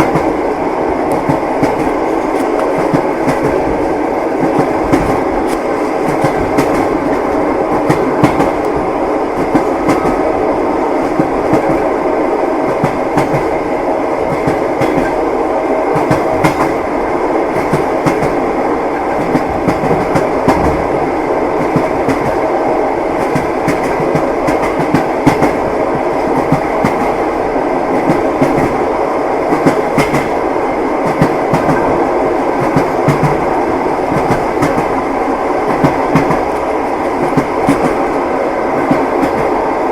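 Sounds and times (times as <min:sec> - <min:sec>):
train carriage rumbling on track: 0:00.0 - 0:39.9.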